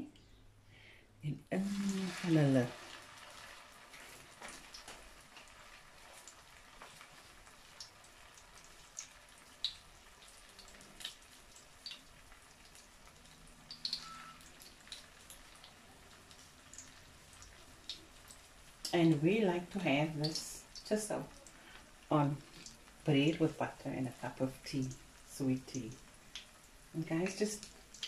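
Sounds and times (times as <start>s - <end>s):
oil popping and crackling: 1.6s - 19.1s, 19.8s - 23.4s, 24.1s - 28.0s
oil sizzling: 1.6s - 28.0s.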